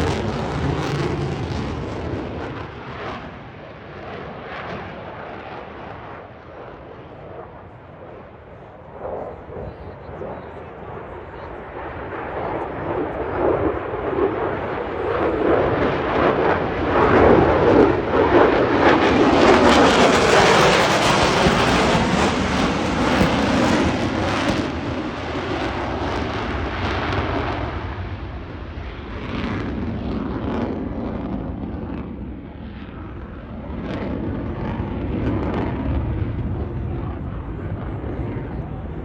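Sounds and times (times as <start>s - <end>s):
fighter jet passing overhead: 0.0s - 39.0s.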